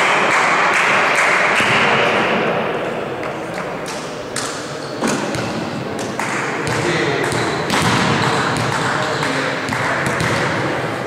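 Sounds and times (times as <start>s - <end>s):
echoing crowd voices and shouts: 0.0s - 11.0s.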